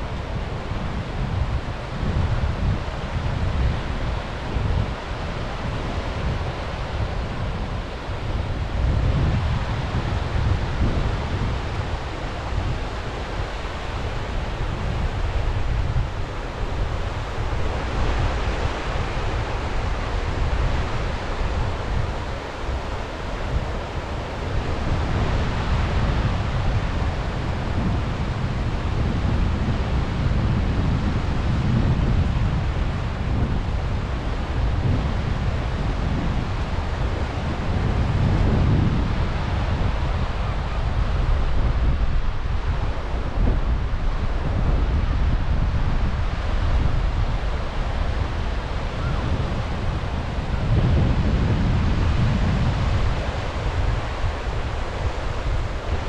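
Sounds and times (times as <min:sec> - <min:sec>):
sea waves washing ashore: 0:00.0 - 0:56.0
wind buffeting microphone: 0:00.0 - 0:56.0.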